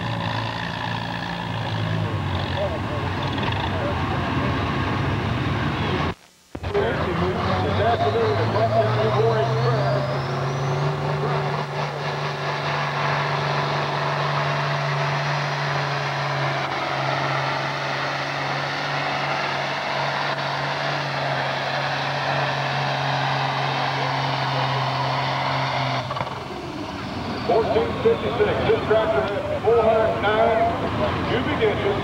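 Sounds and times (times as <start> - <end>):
tractor engine droning: 0.0 - 32.0.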